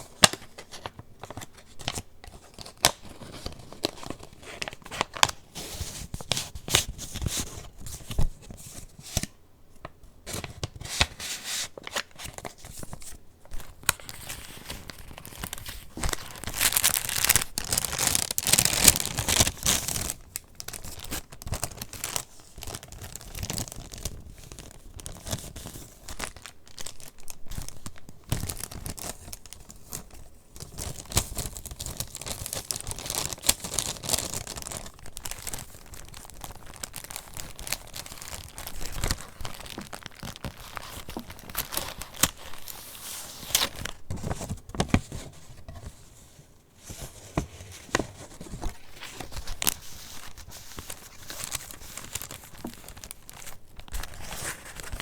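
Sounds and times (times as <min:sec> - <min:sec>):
paper pages rustling: 0:00.2 - 0:09.3, 0:10.3 - 0:23.9, 0:30.9 - 0:46.2, 0:46.8 - 0:55.0.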